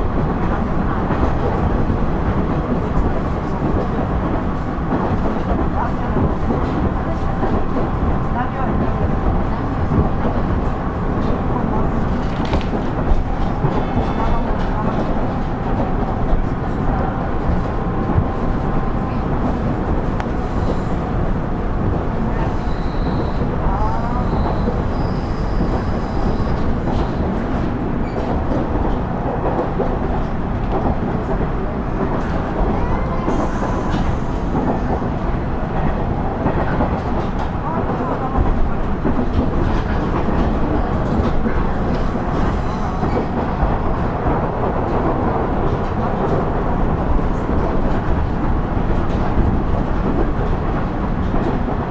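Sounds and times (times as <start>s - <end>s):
diesel railcar rumbling: 0.0s - 51.9s.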